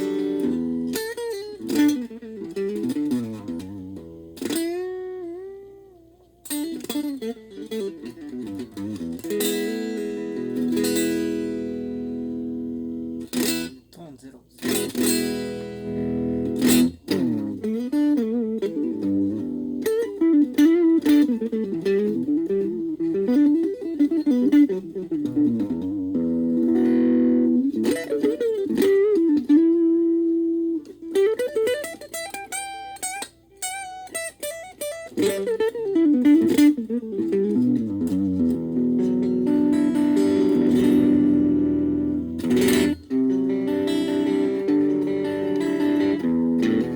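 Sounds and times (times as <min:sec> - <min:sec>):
electric guitar lead lines: 0:00.0 - 0:46.9.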